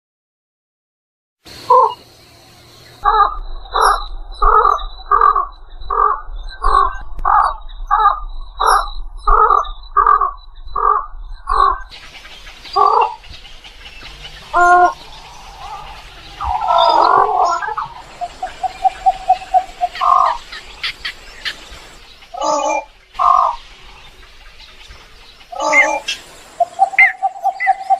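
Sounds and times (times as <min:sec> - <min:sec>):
egret calling: 0:03.0 - 0:23.7, 0:25.4 - 0:27.9.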